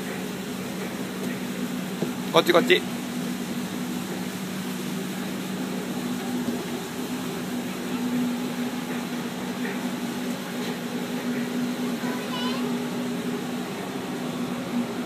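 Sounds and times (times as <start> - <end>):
ship machinery humming: 0.0 - 15.0
ventilation hiss: 0.0 - 15.0.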